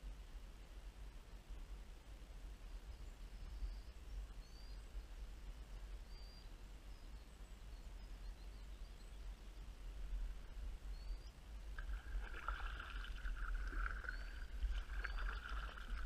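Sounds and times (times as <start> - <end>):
small birds chirping faintly: 0.9 - 16.0.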